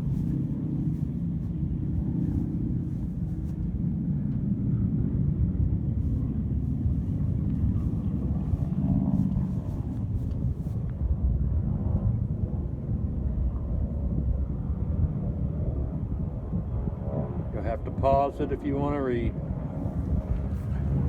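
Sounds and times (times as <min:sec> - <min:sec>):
aircraft engine droning: 0:00.0 - 0:21.0.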